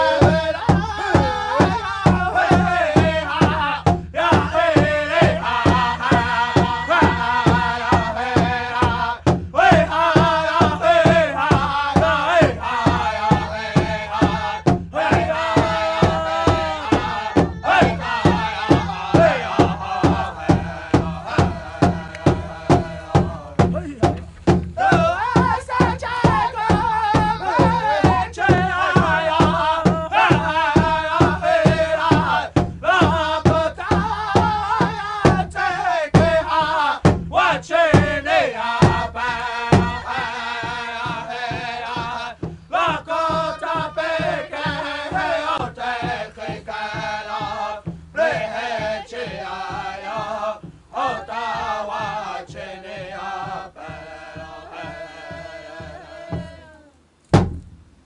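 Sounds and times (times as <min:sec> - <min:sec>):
regular drum beat: 0:00.0 - 0:56.7, 0:57.3 - 0:58.0
chanting voices: 0:00.0 - 0:57.0.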